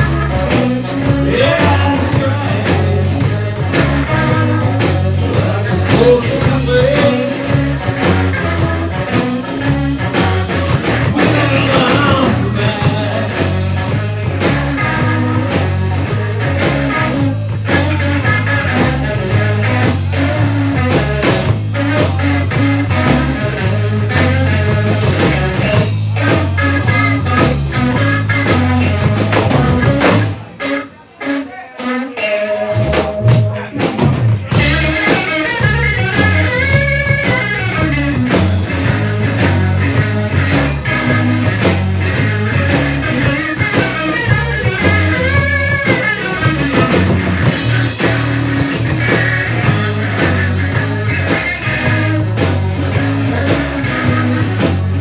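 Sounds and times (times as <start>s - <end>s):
drum kit: 0.0s - 55.0s
electric bass: 0.0s - 55.0s
electric guitar: 0.0s - 55.0s.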